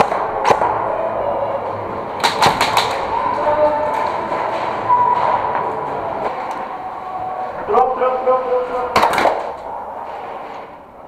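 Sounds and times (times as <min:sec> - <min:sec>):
background din: 0:00.0 - 0:09.9.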